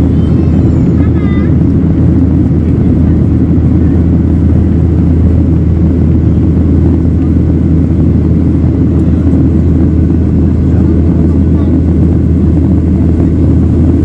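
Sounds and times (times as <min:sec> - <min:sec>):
jet airliner cabin noise: 0:00.0 - 0:14.0.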